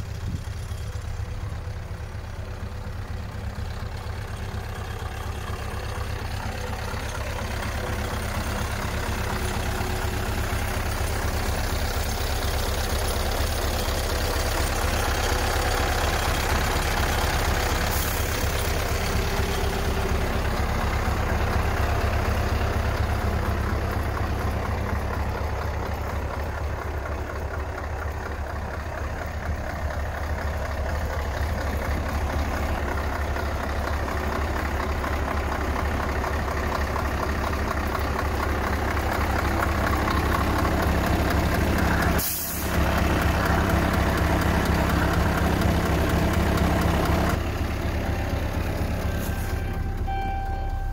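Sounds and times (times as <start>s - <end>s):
truck diesel engine idling: 0.0s - 50.9s.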